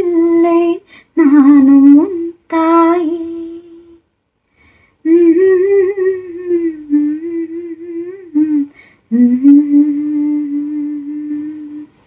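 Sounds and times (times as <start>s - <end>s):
woman singing unaccompanied: 0.0s - 4.0s, 5.0s - 12.0s.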